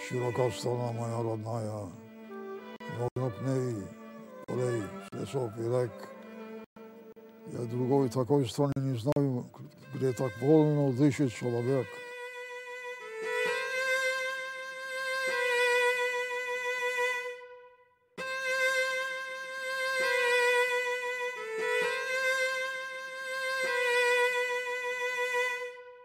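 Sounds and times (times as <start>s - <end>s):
bowed string solo melody: 0.0s - 26.0s.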